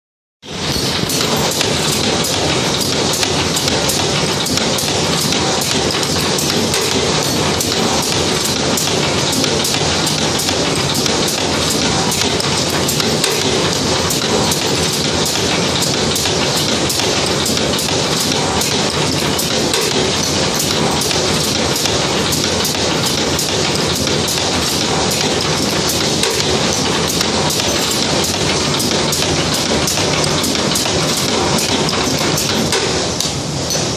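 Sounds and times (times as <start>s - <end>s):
machine hiss and clatter: 0.4s - 33.9s
sharp machine clicks: 0.5s - 33.9s.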